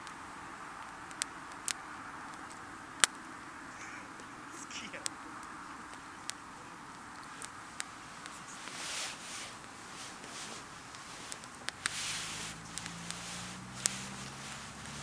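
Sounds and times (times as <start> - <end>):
campfire crackling: 0.0 - 15.0
sharp pops: 0.0 - 15.0.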